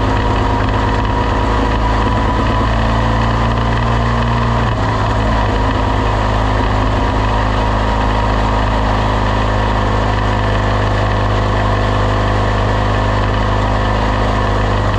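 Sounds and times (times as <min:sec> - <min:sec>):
engine running steadily: 0:00.0 - 0:14.9.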